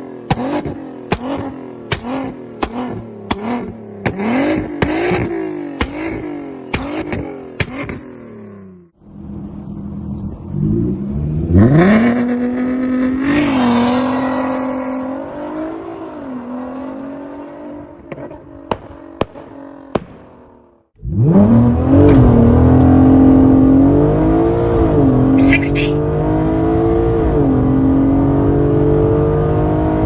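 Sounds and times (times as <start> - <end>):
car engine revving: 0.0 - 20.0, 21.0 - 30.0.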